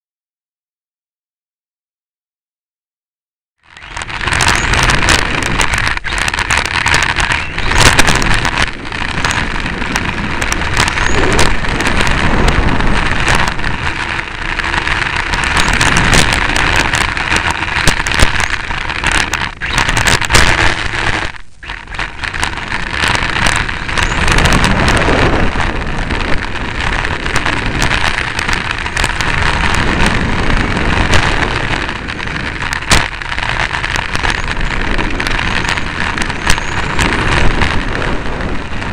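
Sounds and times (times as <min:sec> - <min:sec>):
tyre and wind noise: 0:03.6 - 0:38.9.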